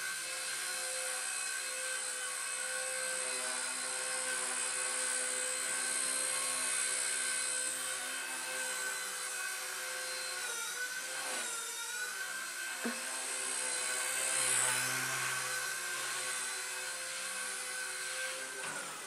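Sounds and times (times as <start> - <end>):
rc helicopter rotor whine: 0.0 - 19.0.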